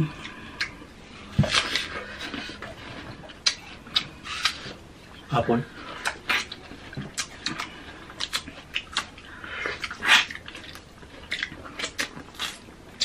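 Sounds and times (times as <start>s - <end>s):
wet mouth clicks and chewing: 0.2s - 0.8s, 1.4s - 4.8s, 6.0s - 13.0s.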